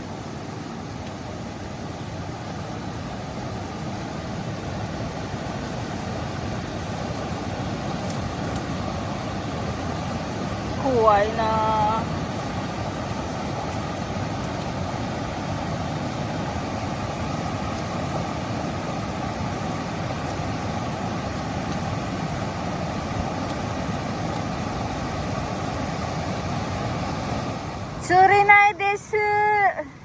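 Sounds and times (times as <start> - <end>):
fast-flowing river rushing: 0.0 - 30.0.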